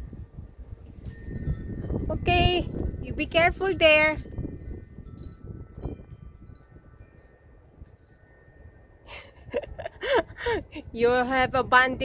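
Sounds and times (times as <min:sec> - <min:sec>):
low rumble of wind: 0:00.0 - 0:12.0
wind chimes tinkling: 0:00.0 - 0:12.0.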